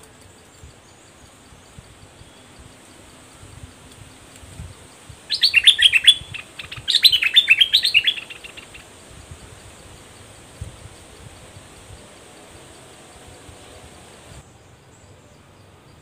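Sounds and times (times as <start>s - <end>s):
bulbul song: 0.0s - 14.5s.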